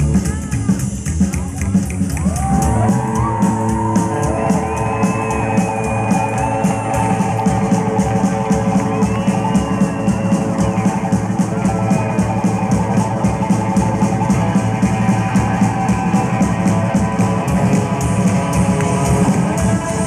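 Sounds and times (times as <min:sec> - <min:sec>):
steady drum beat: 0:00.0 - 0:20.0
upright bass: 0:00.0 - 0:20.0
electric guitar lead: 0:02.4 - 0:20.0.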